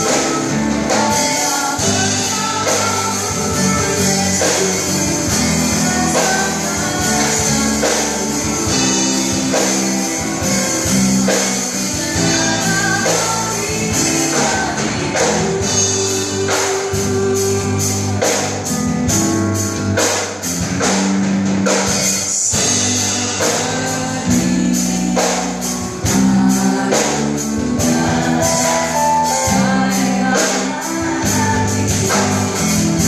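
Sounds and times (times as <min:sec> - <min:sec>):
person singing: 0:00.0 - 0:19.4, 0:22.4 - 0:33.0
bass guitar: 0:00.0 - 0:33.0
drum kit beat: 0:00.0 - 0:33.0
electric guitar: 0:00.0 - 0:33.0
keyboard: 0:00.0 - 0:33.0.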